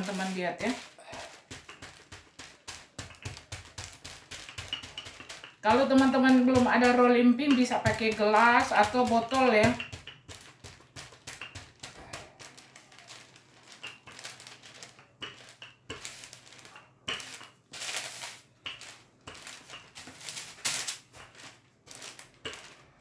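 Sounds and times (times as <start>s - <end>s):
baking paper rustling under rolling pin: 0.0s - 23.0s.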